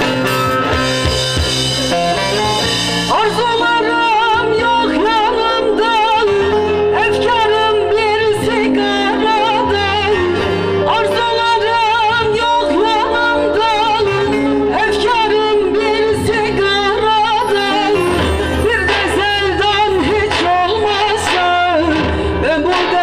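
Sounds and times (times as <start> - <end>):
instrumental accompaniment: 0.0 - 23.0
woman singing folk song: 3.1 - 23.0.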